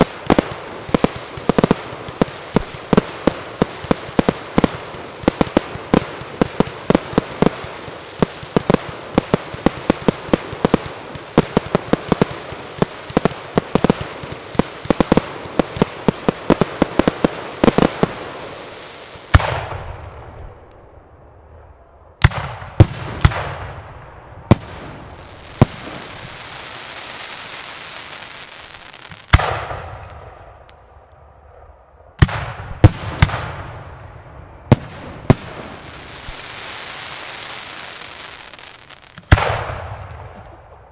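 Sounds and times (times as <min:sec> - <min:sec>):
rapid firework bangs: 0:00.0 - 0:20.1, 0:22.2 - 0:30.4, 0:32.2 - 0:34.0, 0:34.7 - 0:40.9.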